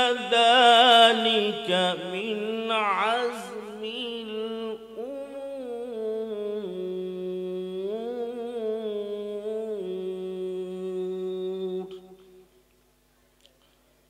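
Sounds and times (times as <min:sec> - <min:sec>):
man reciting melodically: 0:00.0 - 0:12.3.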